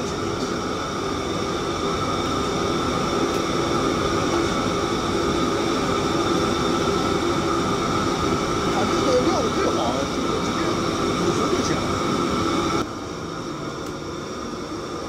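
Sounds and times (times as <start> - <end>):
high whines: 0.0 - 12.9
exhaust hood fan: 0.0 - 15.0
gas burner roaring: 0.0 - 15.0.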